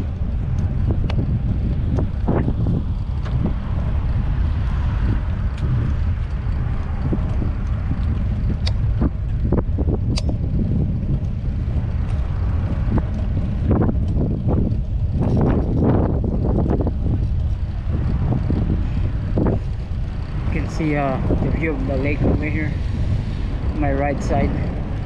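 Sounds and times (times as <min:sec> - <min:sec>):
clicks and rattles from bicycle: 0:00.0 - 0:25.0
wind buffeting microphone: 0:00.0 - 0:25.0.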